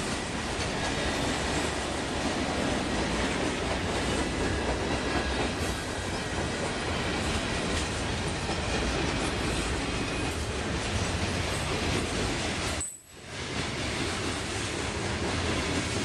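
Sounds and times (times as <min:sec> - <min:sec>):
train wheels rumbling on rails: 0:00.0 - 0:16.0
wheels clickety-clack: 0:00.0 - 0:16.0.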